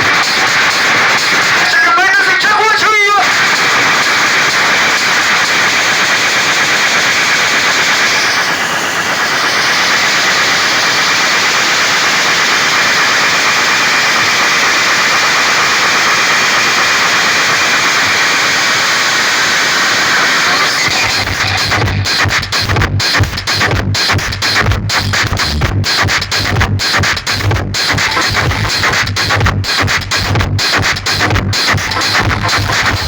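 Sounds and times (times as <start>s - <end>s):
white noise through sound system: 0.0s - 33.0s.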